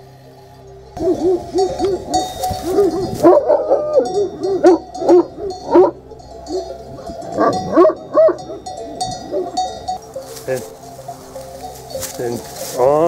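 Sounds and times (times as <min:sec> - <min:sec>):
sheep bells clinking: 0:00.6 - 0:13.0.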